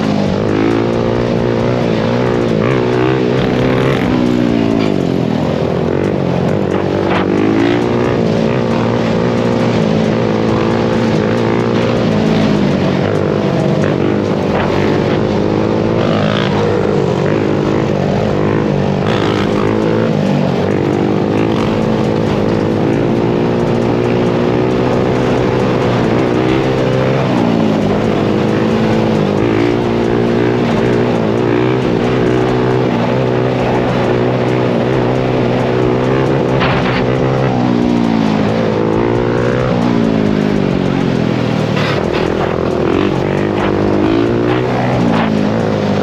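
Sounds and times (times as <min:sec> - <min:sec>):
quad engine revving: 0:00.0 - 0:46.0.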